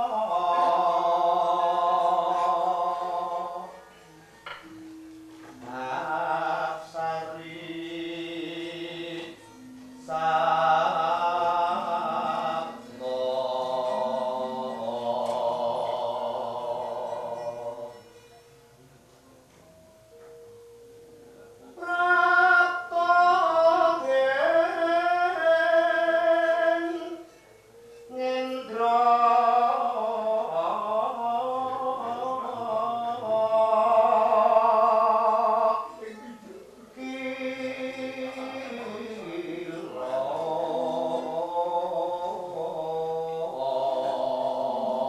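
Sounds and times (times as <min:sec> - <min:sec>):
person singing: 0:00.0 - 0:18.4, 0:21.7 - 0:45.0
sustained gamelan tones: 0:00.0 - 0:45.0.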